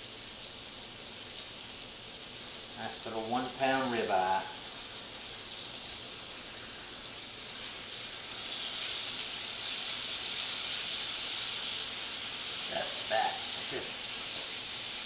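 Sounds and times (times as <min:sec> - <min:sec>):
steak sizzling in a skillet: 0:00.0 - 0:15.0.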